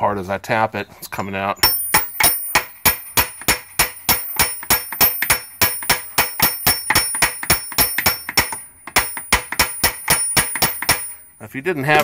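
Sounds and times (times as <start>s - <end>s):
hammer tapping on metal: 1.6s - 11.3s.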